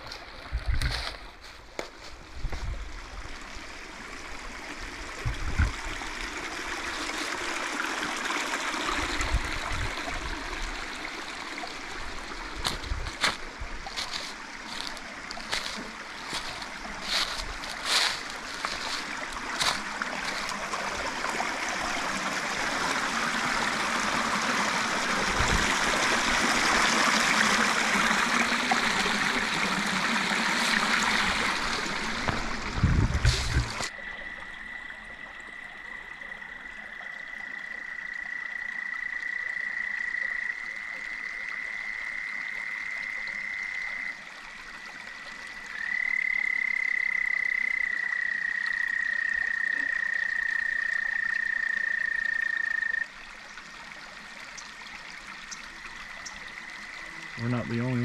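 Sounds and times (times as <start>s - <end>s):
rushing creek water: 0.0s - 58.0s
frogs trilling: 9.9s - 32.7s, 33.7s - 58.0s.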